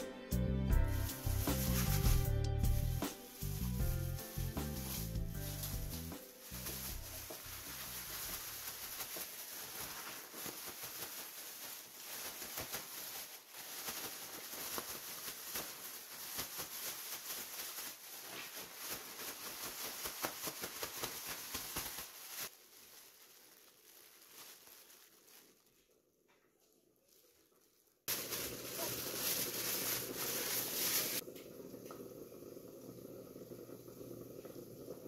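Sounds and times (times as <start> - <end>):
plastic bag crinkling: 1.0 - 26.0, 26.6 - 31.2.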